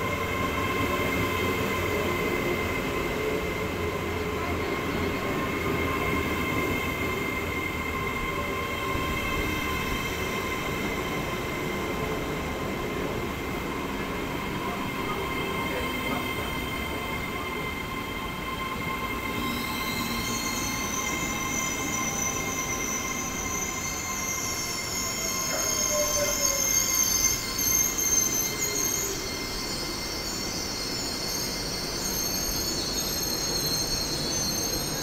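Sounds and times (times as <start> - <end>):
train slowing to a stop: 0.0 - 35.0
brake and wheel squeal: 0.6 - 35.0.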